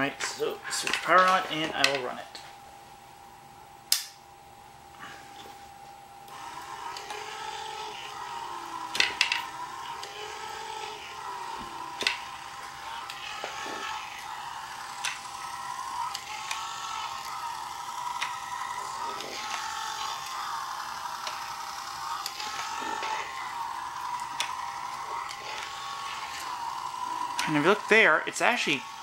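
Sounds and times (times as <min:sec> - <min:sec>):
massager motor whining: 0:00.0 - 0:29.0.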